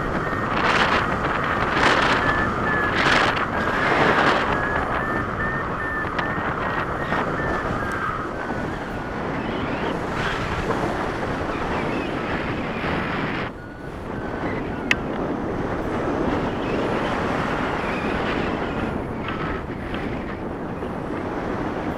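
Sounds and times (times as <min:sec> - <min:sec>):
wind rushing over microphone: 0:00.0 - 0:21.9.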